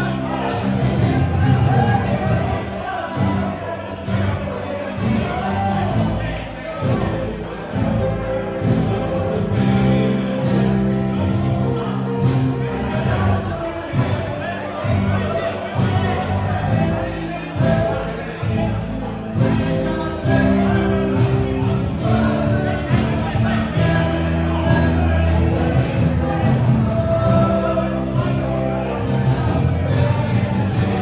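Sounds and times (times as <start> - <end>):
live band playing: 0.0 - 31.0
person singing: 0.0 - 31.0.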